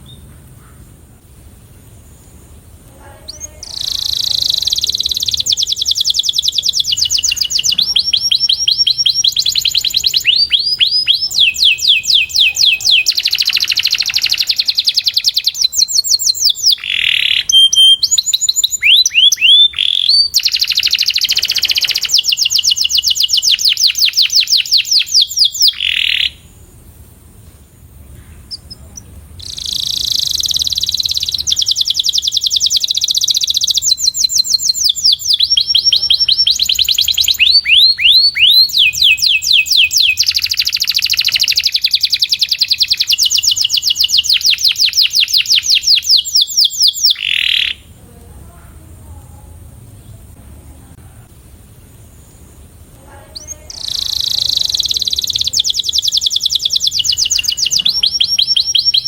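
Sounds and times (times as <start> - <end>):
canary singing trills: 1.8 - 26.8, 28.0 - 48.3, 51.8 - 59.0.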